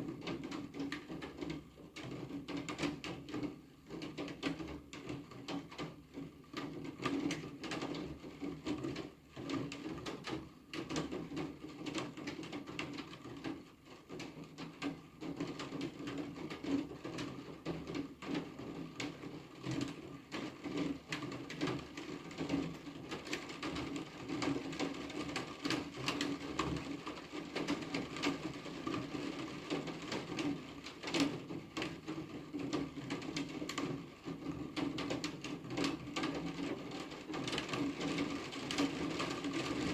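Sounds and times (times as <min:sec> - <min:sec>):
rain drops tapping on hard surface: 0:00.0 - 0:39.9.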